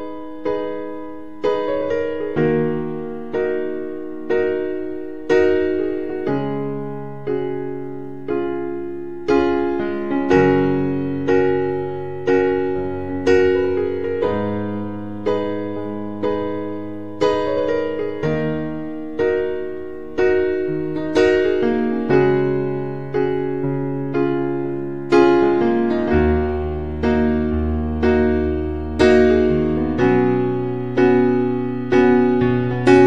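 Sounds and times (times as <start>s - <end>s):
slow piano chords: 0.0s - 33.0s.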